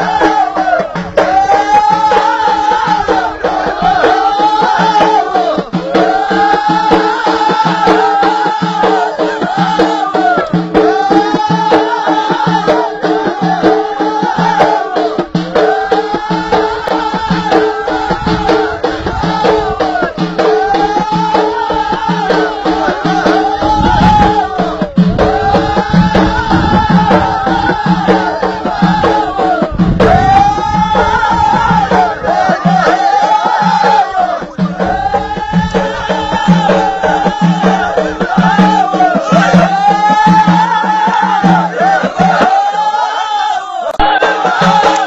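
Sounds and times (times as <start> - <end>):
frame drums beating: 0.0 - 43.2, 43.9 - 45.0
chorus singing: 0.0 - 45.0.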